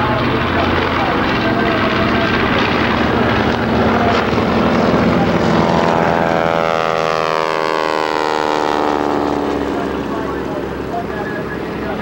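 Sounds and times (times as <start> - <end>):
propeller planes roaring past: 0.0 - 12.0.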